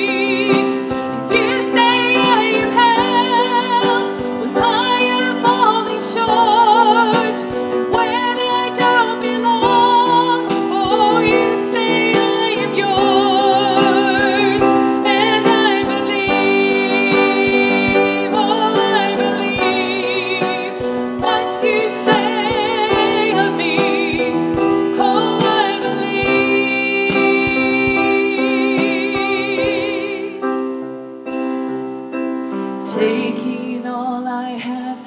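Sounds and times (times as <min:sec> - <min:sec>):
woman singing with vibrato: 0:00.0 - 0:30.8, 0:32.8 - 0:35.0
grand piano: 0:00.0 - 0:35.0.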